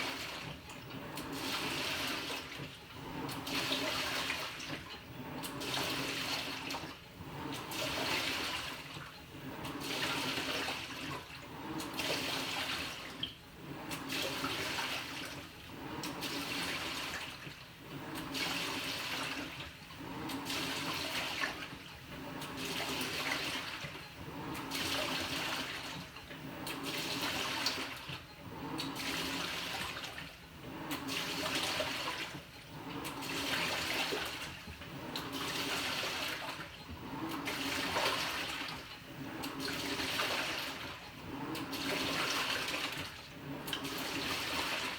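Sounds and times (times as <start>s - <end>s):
washing machine sloshing water: 0.0s - 44.9s.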